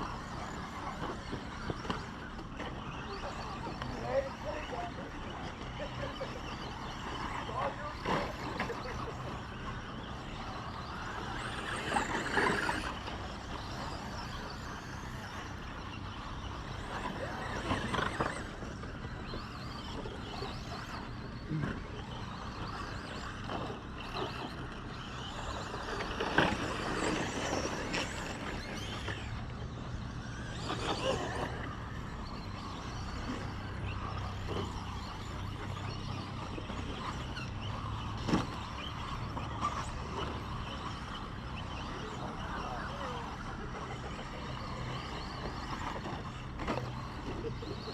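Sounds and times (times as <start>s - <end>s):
rc trucks racing past: 0.0s - 47.9s.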